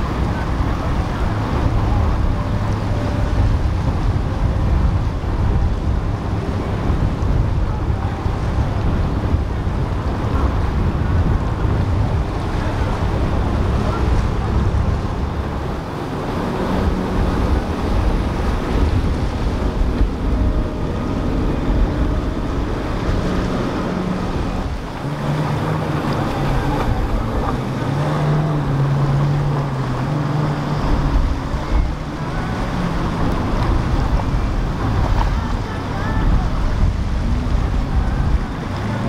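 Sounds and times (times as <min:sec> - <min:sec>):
boat engines droning: 0:00.0 - 0:39.0
waves and spray splashing: 0:00.0 - 0:39.0
wind buffeting microphone: 0:00.0 - 0:39.0.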